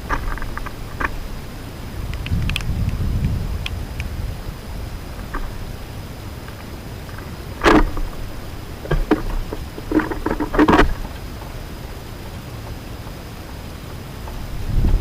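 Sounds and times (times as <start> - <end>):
low rumble of wind or rain: 0.0 - 15.0.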